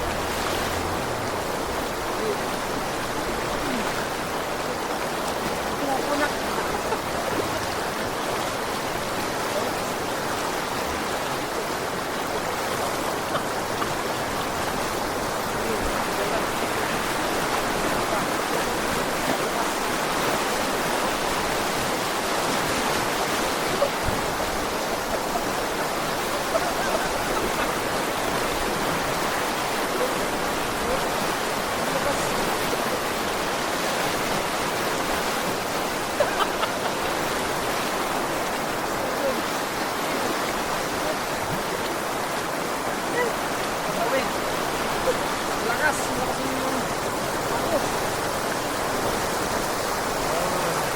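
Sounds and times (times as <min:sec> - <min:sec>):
fast-flowing water rushing: 0:00.0 - 0:50.9.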